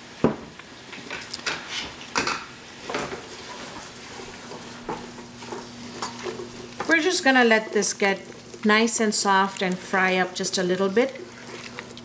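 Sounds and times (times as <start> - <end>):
wooden spoon stirring food: 0.9 - 12.0.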